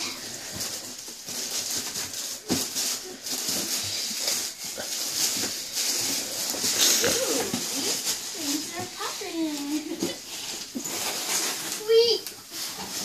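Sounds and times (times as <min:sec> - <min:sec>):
tissue paper rustling: 0:00.0 - 0:13.0.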